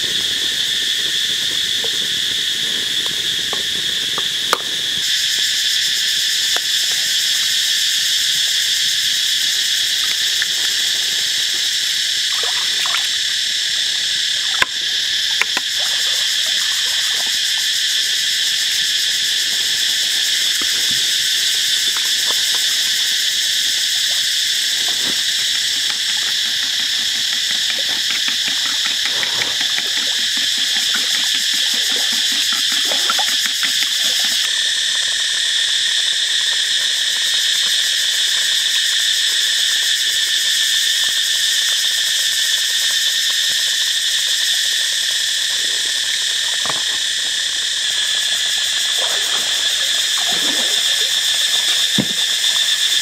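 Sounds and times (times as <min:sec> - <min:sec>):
insects calling: 0:00.0 - 0:53.0.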